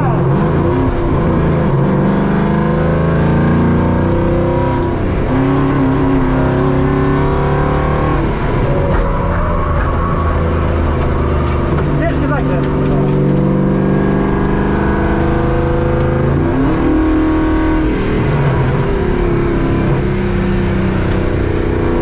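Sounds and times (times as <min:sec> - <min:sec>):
engine revving from inside cab: 0:00.2 - 0:09.2, 0:10.2 - 0:22.0.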